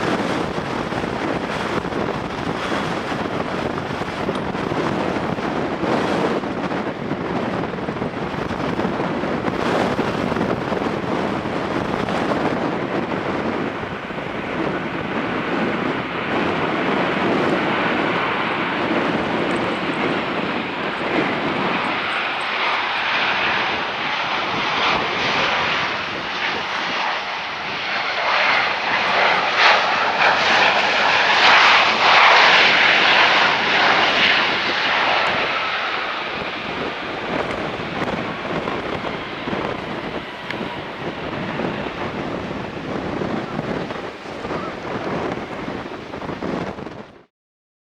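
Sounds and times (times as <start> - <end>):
jet airliner engines rushing: 0.0 - 47.3
wind buffeting microphone: 0.0 - 47.3.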